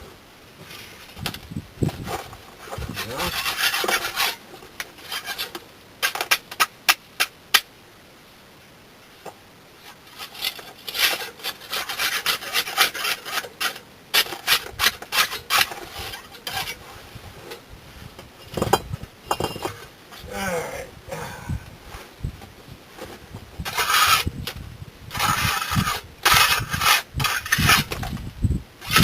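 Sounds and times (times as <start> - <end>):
bricks scraping: 0.6 - 7.4, 9.8 - 29.0.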